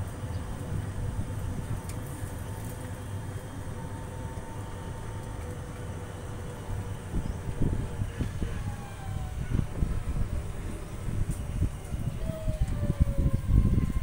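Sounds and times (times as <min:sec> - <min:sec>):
shuttle car rumbling on road: 0:00.0 - 0:14.0.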